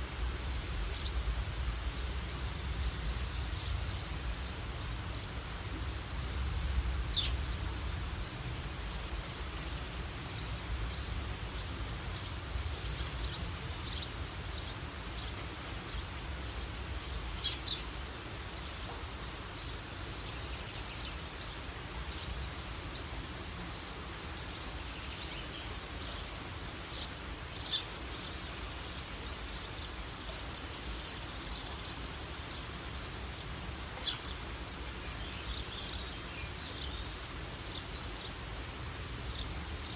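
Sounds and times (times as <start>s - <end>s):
outdoor hiss and low rumble: 0.0s - 39.9s.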